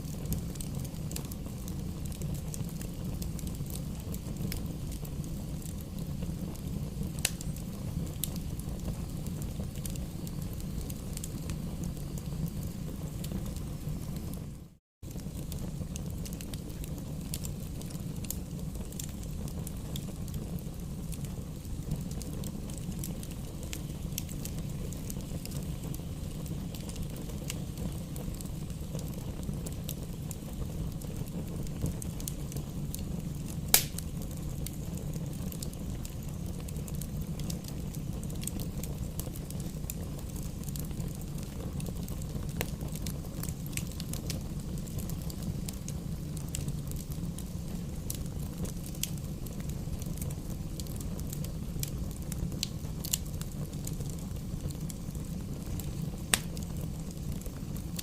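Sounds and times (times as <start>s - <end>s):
campfire crackling: 0.0s - 58.0s
low rumble of burning: 0.0s - 58.0s.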